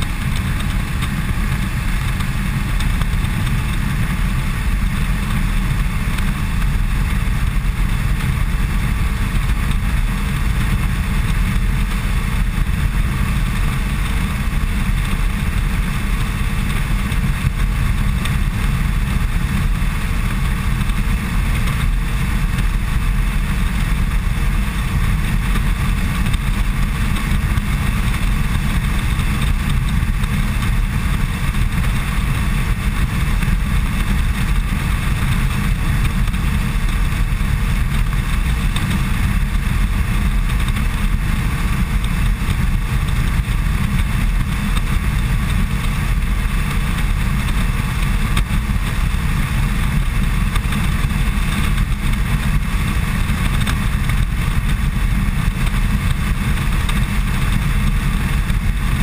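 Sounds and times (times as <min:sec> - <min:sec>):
motorcycle engine drone: 0:00.0 - 0:59.0
wind rushing on microphone: 0:00.0 - 0:59.0.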